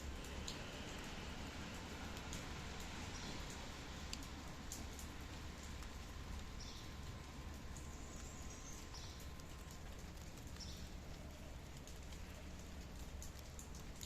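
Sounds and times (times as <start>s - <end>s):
light rain: 0.0s - 14.0s.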